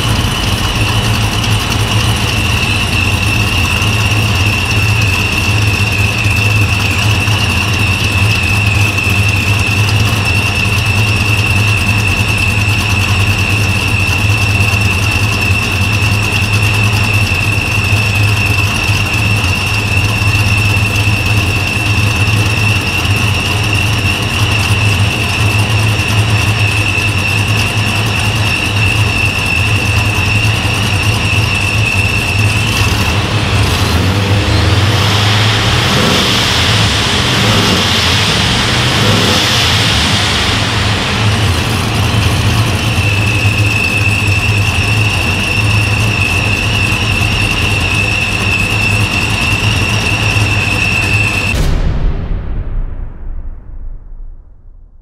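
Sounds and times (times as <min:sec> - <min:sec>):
engine idling: 0:00.0 - 0:51.8
supercharger whine: 0:00.0 - 0:55.0.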